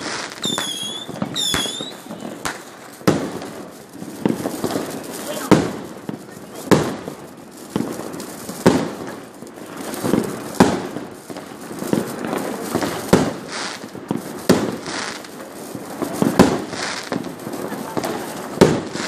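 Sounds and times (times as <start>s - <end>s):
distant fireworks: 0.0s - 19.0s
fireworks exploding with sharp bangs: 0.0s - 19.0s.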